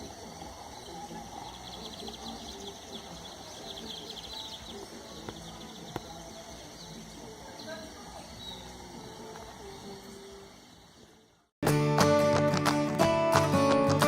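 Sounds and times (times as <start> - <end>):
birds chirping in trills: 0.0 - 11.5
outdoor background hiss: 0.0 - 14.0.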